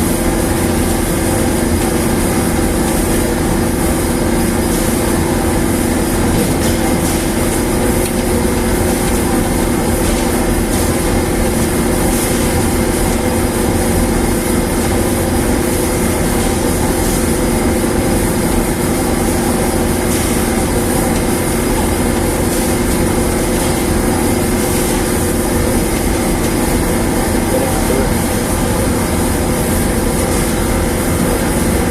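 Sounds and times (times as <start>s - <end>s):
dryer machine humming: 0.0s - 31.9s.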